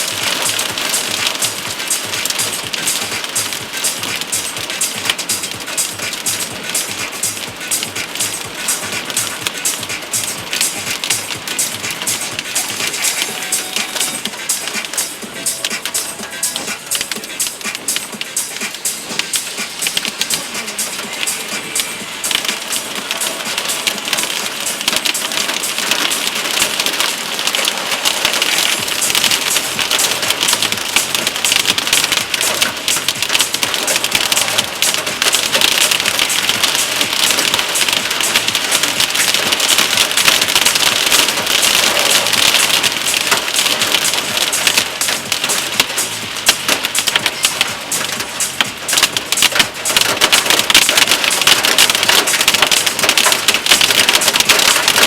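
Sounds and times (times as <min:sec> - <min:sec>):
heavy rain and hail pelting: 0:00.0 - 0:55.0.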